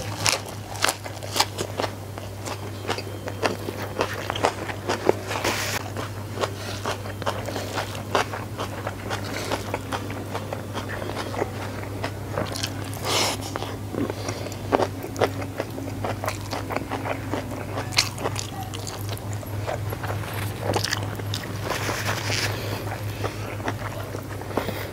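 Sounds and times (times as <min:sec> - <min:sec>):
chewing with wet smacks: 0:00.0 - 0:24.9
steady low hum: 0:00.0 - 0:24.9.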